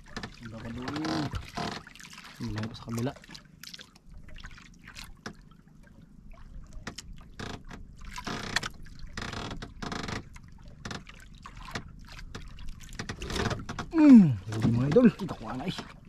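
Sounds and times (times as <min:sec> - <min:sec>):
water slapping boat hull: 0:00.0 - 0:16.0.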